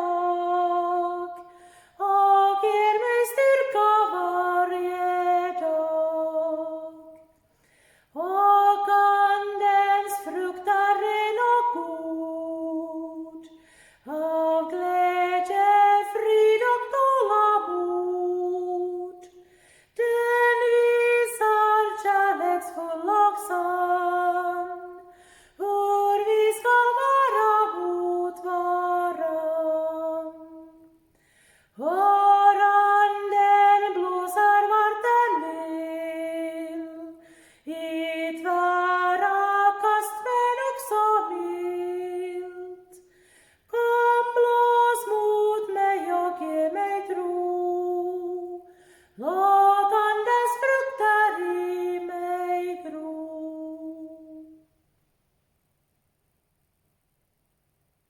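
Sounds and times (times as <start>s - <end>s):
woman singing a hymn unaccompanied: 0.0s - 7.4s, 8.0s - 31.1s, 31.7s - 54.7s.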